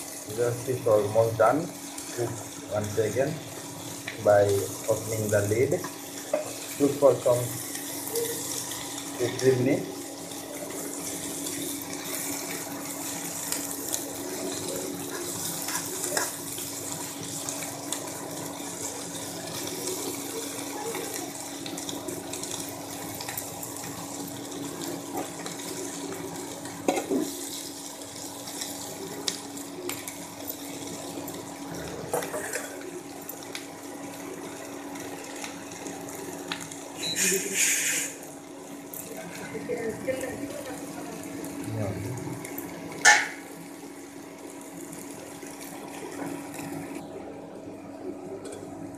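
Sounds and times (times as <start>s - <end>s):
induction cooktop hum: 0.0s - 48.9s
vegetables sizzling in a frying pan: 0.0s - 48.9s.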